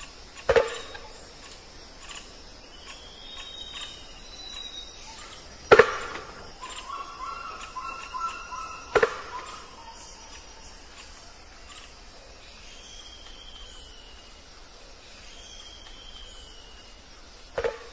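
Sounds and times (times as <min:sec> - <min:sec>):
insects chorus: 0:00.0 - 0:17.9.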